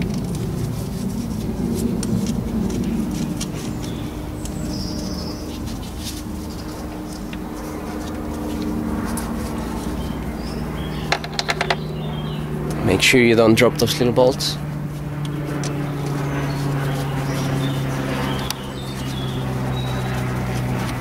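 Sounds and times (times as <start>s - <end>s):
low steady hum: 0.0s - 21.0s
birds chirping: 2.4s - 21.0s.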